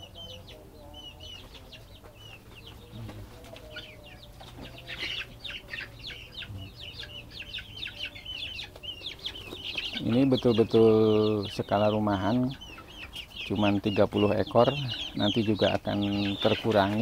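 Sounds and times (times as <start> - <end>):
chickens clucking: 0.0 - 17.0
chicks cheeping: 0.0 - 17.0.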